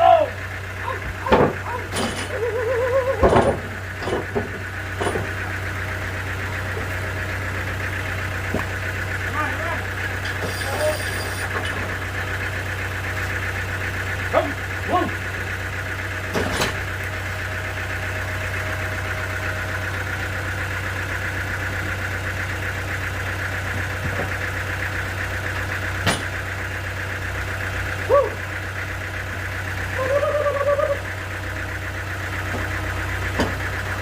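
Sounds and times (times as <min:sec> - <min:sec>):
sawmill machinery humming and whining: 0:00.0 - 0:34.0.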